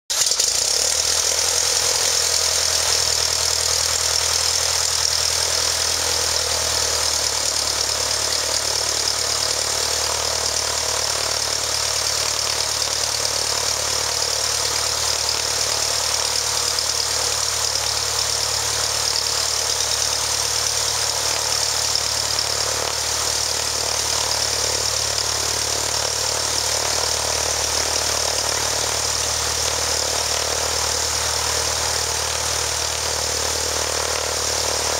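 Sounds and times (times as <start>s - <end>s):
aircraft piston engine idling: 0.1s - 34.9s.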